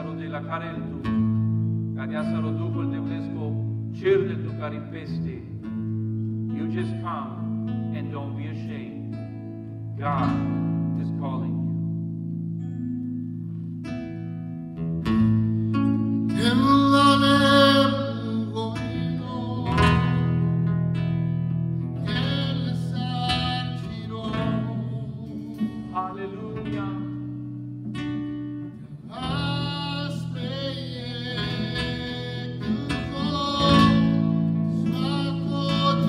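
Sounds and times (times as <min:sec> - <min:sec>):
worship music with guitar: 0:00.0 - 0:36.0.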